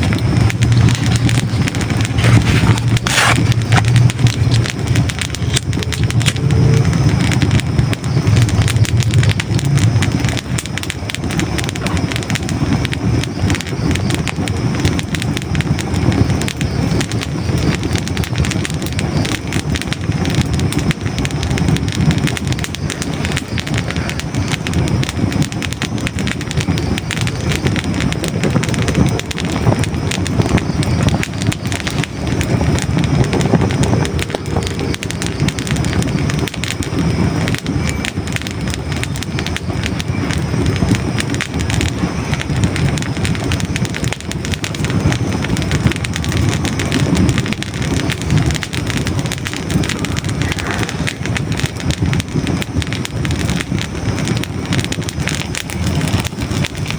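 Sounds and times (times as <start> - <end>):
logs crackling in fireplace: 0.0 - 56.9
low rumble of flames: 0.0 - 56.9.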